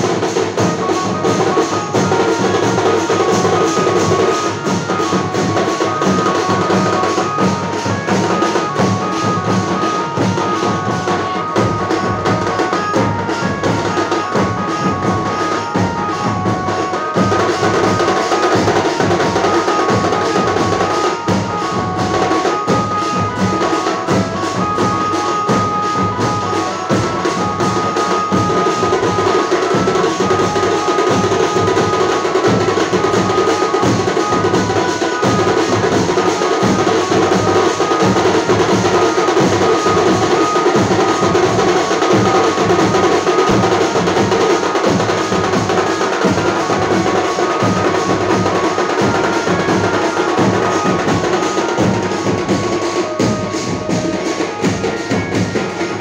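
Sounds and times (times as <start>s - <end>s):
high melody of short notes: 0.0s - 56.0s
large drums beating: 0.0s - 56.0s.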